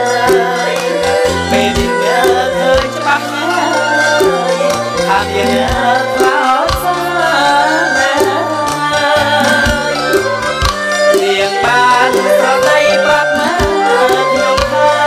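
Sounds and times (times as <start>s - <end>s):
drums keeping a steady beat: 0.0s - 15.0s
held bass notes: 0.0s - 15.0s
wavering melody line: 0.0s - 15.0s.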